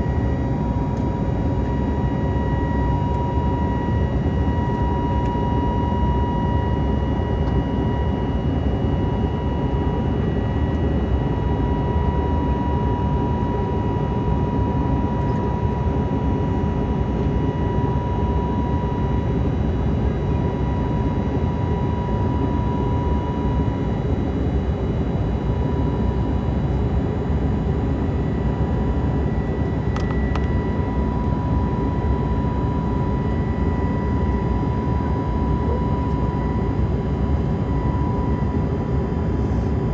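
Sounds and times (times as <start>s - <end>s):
aircraft cabin engine drone: 0.0s - 39.9s
steady high whine: 0.0s - 39.9s.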